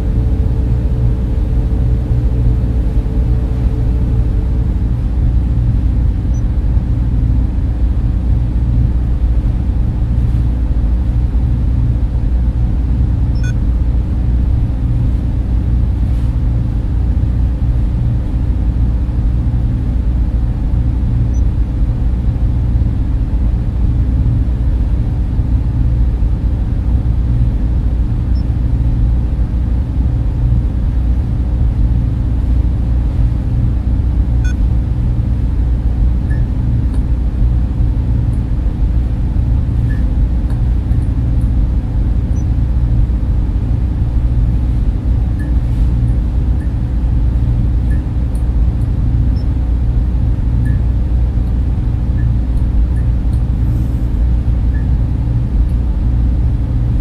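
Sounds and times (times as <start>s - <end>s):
server and cooling fans humming: 0.0s - 57.0s.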